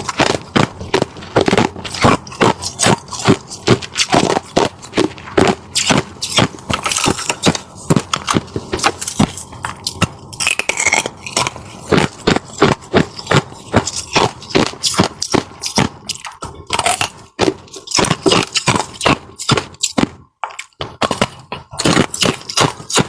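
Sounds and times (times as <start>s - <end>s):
ice crust crunching and scraping: 0.0s - 23.0s.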